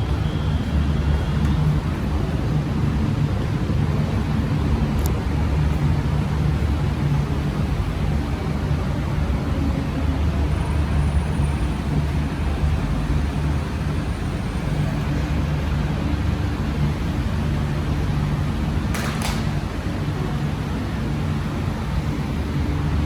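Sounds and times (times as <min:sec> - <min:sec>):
metro train rumble: 0:00.0 - 0:23.0.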